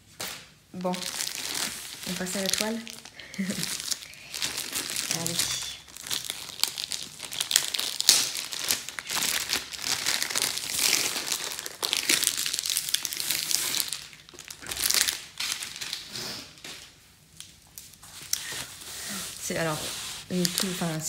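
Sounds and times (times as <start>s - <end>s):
plastic film crinkling: 0.2s - 21.0s.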